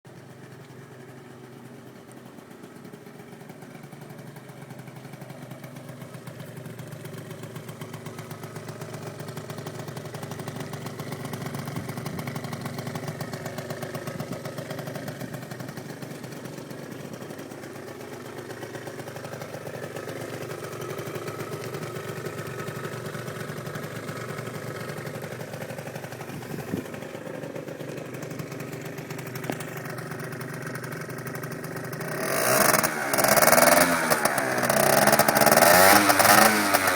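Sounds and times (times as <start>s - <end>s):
scooter engine idling: 0.1s - 36.9s.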